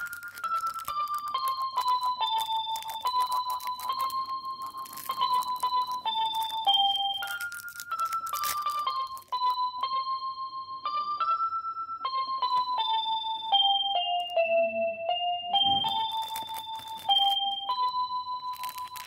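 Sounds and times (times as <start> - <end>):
electric piano melody: 0.0 - 19.0.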